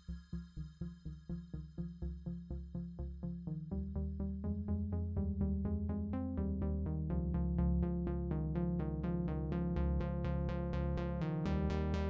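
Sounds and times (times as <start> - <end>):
electronic music with pulsing synth: 0.0 - 12.0.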